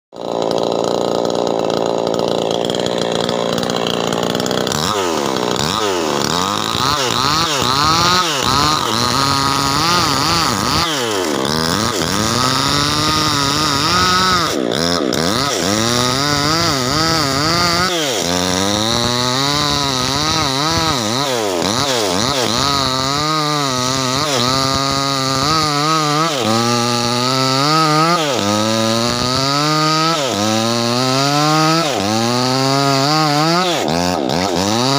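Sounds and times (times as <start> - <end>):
chainsaw idling and revving: 0.1 - 34.9.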